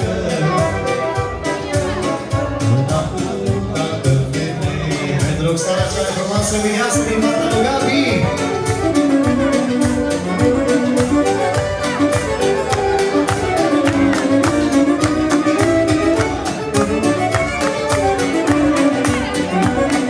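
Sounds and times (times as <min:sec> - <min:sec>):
violin melody: 0:00.0 - 0:03.9, 0:06.5 - 0:20.0
band playing dance music: 0:00.0 - 0:20.0
quick steady beat: 0:00.0 - 0:20.0.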